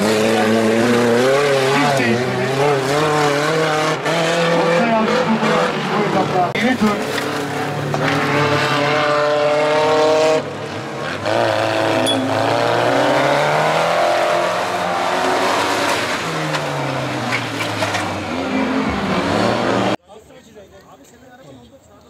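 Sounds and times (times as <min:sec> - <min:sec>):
off-road engines revving hard: 0:00.0 - 0:20.0.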